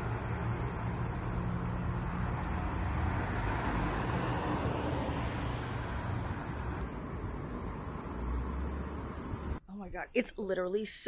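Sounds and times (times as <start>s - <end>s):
high-pitched insect buzz: 0.0s - 3.4s, 4.3s - 11.0s
road traffic rushing: 0.0s - 9.6s.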